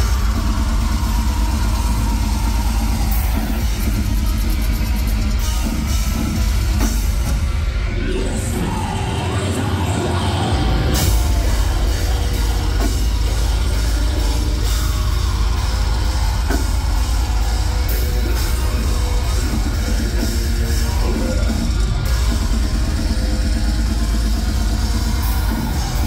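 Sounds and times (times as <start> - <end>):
screamed vocals: 0.0 - 4.8, 7.8 - 26.0
distorted guitars: 0.0 - 26.0
fast heavy drumming: 0.0 - 26.0.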